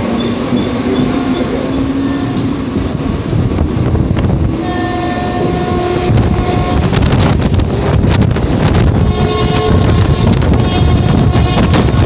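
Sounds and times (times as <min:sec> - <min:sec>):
train rumble: 0:00.0 - 0:12.0
wind buffeting microphone: 0:00.0 - 0:12.0.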